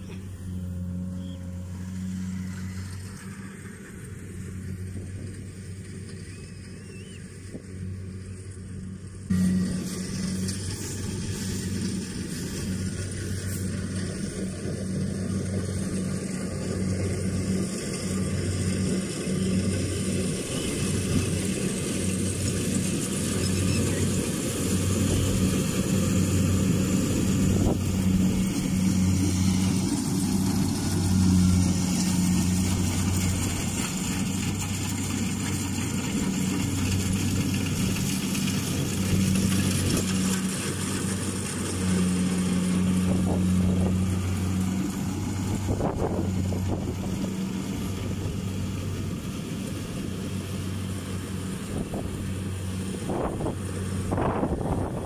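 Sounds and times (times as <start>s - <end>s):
combine harvester engine and machinery: 0.0s - 55.0s.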